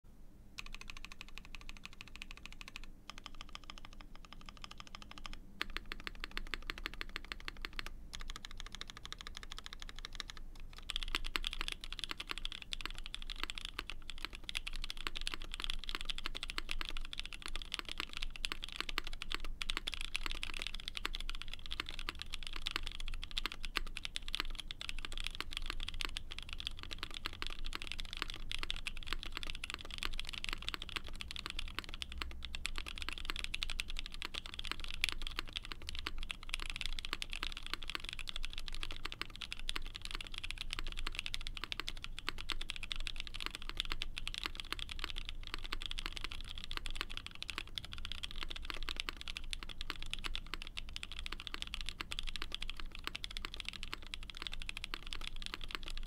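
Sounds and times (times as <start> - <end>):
mechanical keyboard typing: 0.6 - 56.0.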